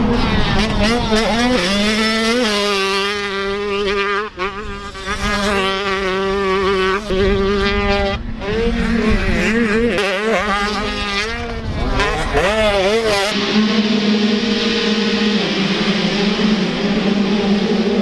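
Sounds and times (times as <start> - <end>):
motocross bikes racing: 0.0 - 18.0.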